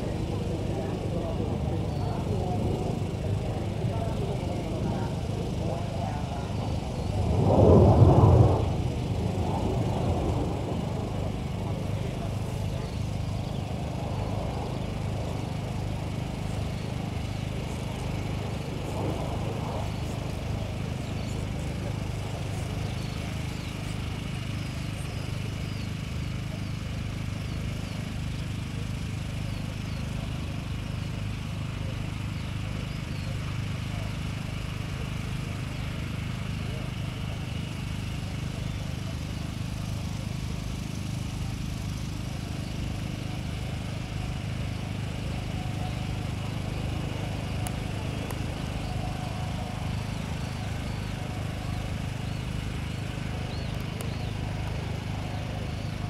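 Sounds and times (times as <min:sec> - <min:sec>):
distant jet engines rumbling: 0:00.0 - 0:56.0.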